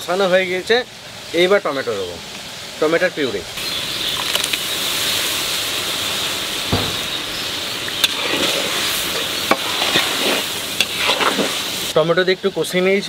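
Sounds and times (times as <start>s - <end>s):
tomato puree sizzling in oil: 0.0s - 12.0s.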